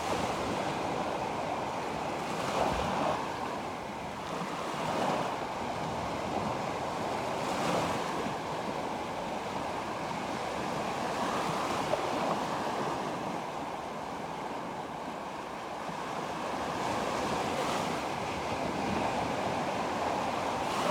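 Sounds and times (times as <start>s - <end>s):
sea waves washing ashore: 0.0s - 20.9s.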